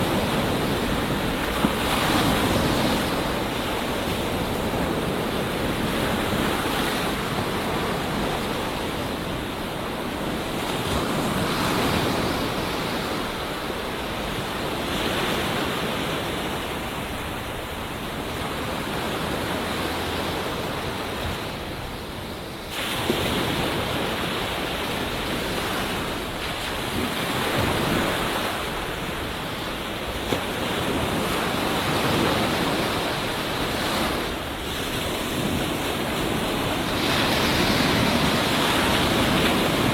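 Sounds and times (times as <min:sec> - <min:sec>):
ocean surf on beach: 0:00.0 - 0:39.9.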